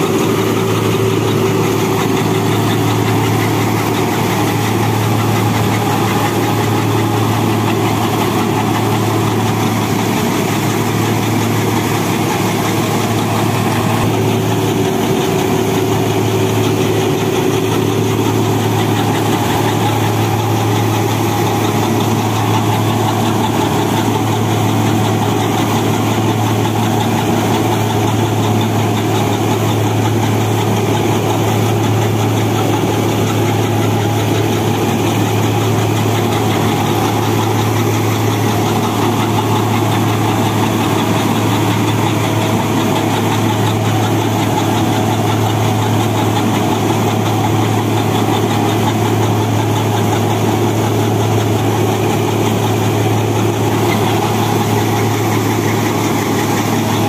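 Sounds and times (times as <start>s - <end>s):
reaper rushing clatter: 0.0s - 57.0s
tractor diesel engine under load: 0.0s - 57.0s.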